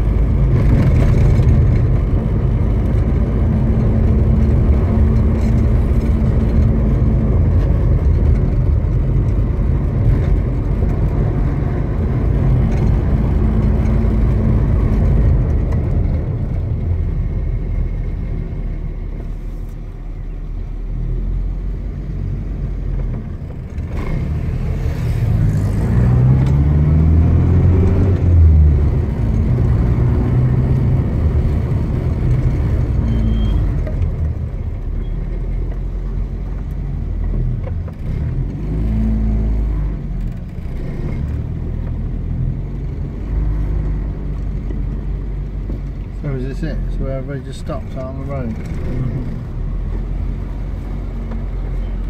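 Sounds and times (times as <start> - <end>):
car engine: 0.0 - 52.0.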